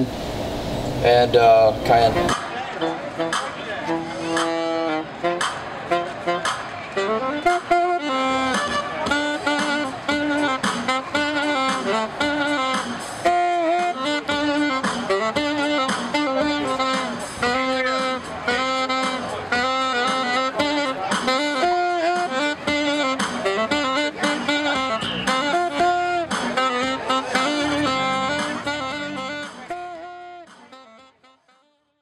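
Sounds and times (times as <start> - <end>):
jazz music with saxophone: 0.9 - 32.0.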